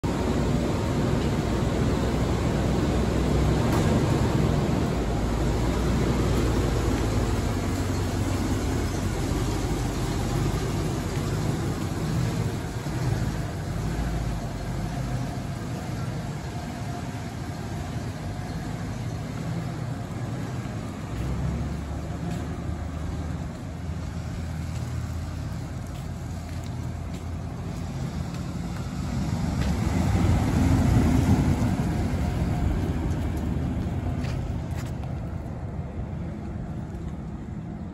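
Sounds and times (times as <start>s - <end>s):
pickup truck engine running: 0.0s - 37.9s.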